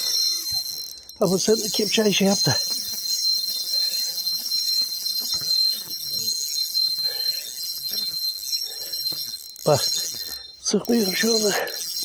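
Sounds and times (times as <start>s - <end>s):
fishing reel drag buzzing: 0.0s - 12.0s.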